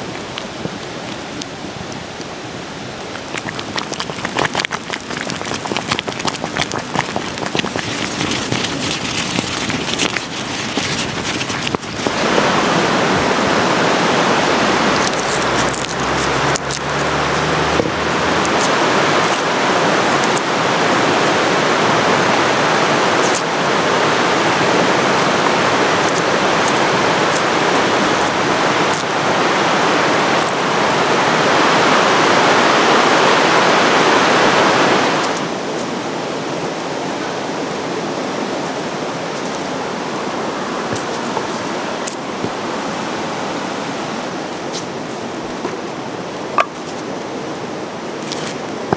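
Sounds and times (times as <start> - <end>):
rushing running water: 0.0 - 48.9.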